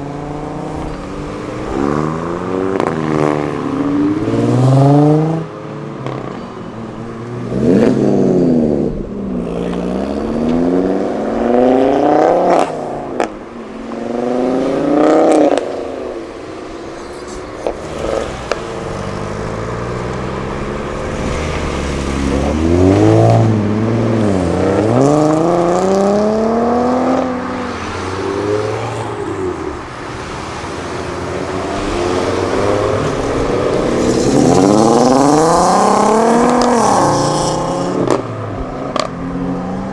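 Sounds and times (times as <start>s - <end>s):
cars accelerating hard: 0.0s - 39.9s.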